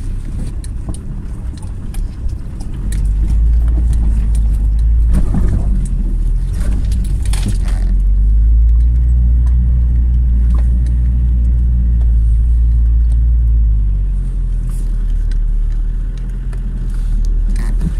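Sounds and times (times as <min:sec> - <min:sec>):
diesel engine drone in cabin: 0:00.0 - 0:17.9.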